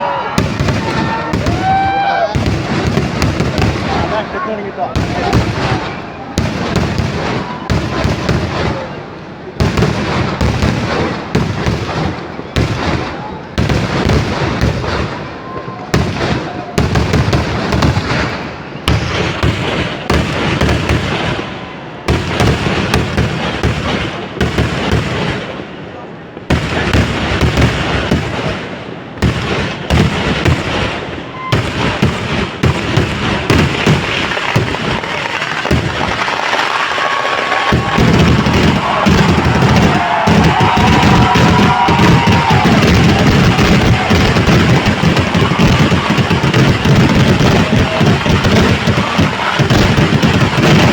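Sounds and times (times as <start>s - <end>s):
fireworks bangs and cracks: 0.0s - 50.9s.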